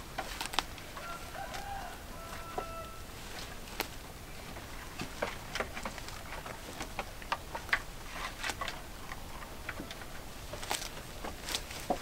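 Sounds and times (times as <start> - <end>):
goats chewing leaves and twigs: 0.0 - 12.0.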